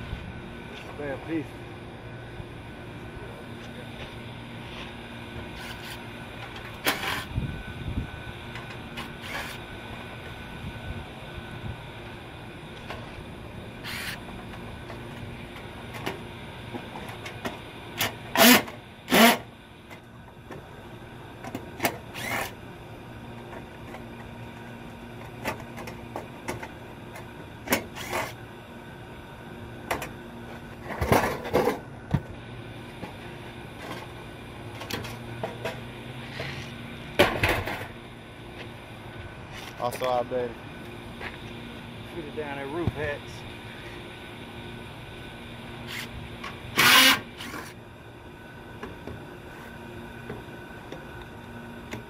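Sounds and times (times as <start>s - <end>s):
low background hum: 0.0s - 52.0s.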